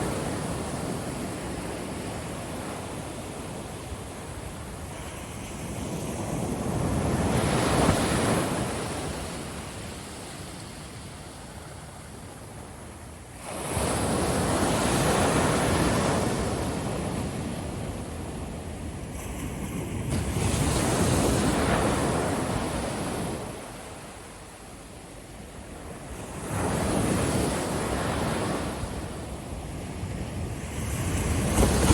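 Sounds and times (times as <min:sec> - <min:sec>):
ocean surf breaking on beach: 0:00.0 - 0:12.1, 0:13.4 - 0:24.2, 0:25.6 - 0:31.9.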